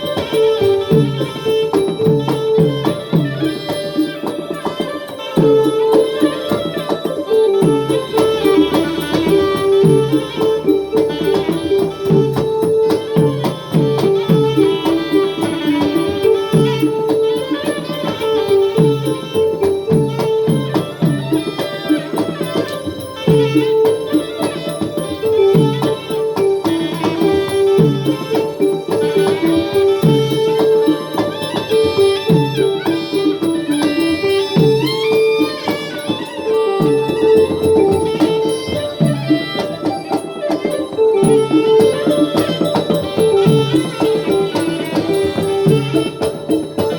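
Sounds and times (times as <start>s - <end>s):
drum strokes dropping in pitch: 0.0s - 46.9s.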